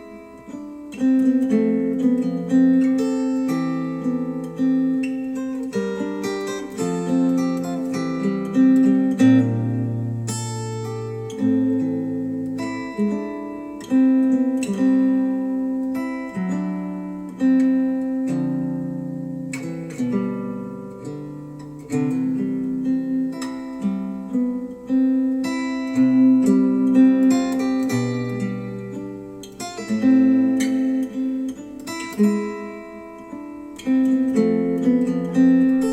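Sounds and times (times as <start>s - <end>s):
acoustic guitar music: 0.0s - 35.9s.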